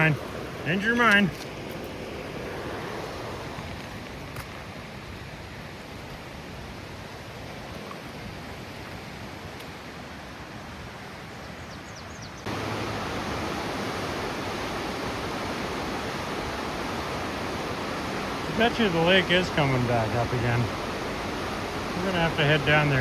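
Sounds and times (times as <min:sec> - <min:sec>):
river water rushing: 0:00.0 - 0:11.4, 0:12.4 - 0:23.0.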